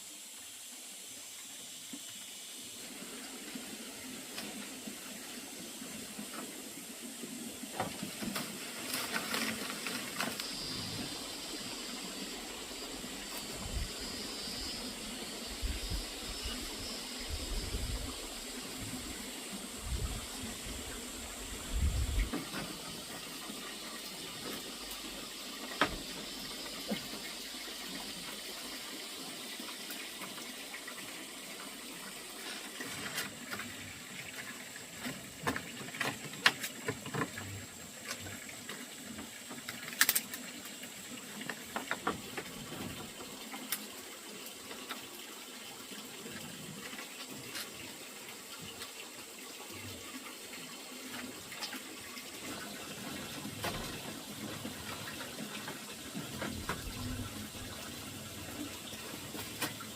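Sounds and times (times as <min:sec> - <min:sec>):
water running: 0:01.8 - 0:59.9.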